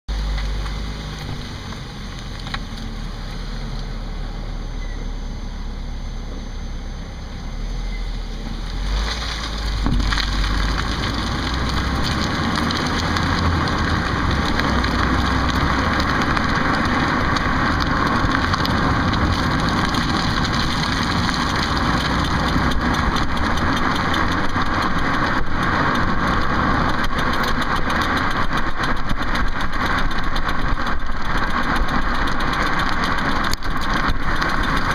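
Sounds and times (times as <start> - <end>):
car engine running: 0.1 - 34.9.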